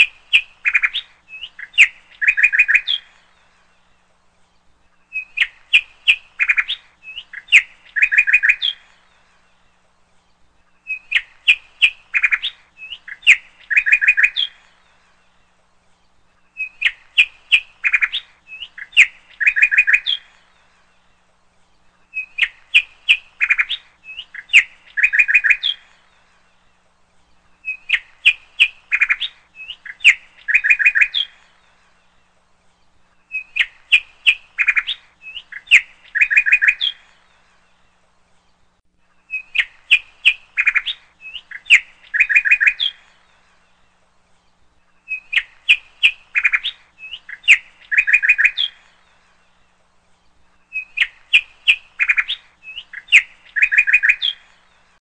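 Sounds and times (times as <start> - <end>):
small bird chirping and trilling: 0.0 - 55.0.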